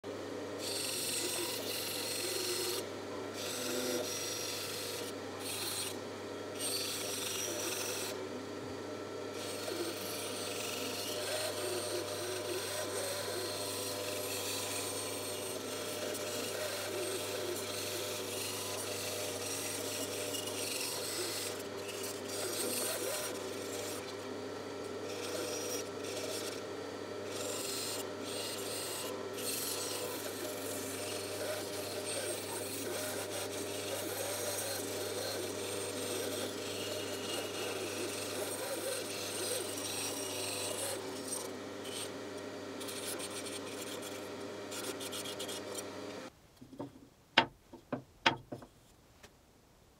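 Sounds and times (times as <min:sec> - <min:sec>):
bandsaw cutting wood: 0:00.4 - 0:08.4, 0:09.0 - 0:46.3.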